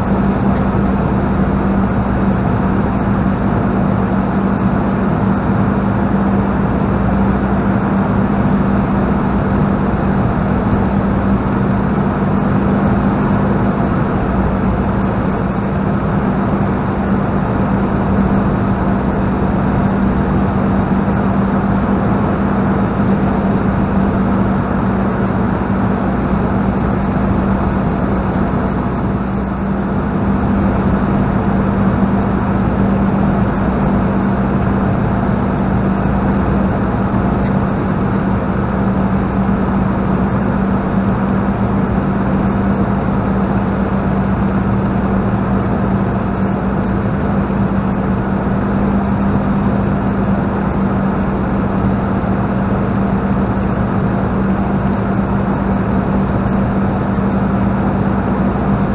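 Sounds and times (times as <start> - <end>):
aircraft engine running: 0.0 - 58.9.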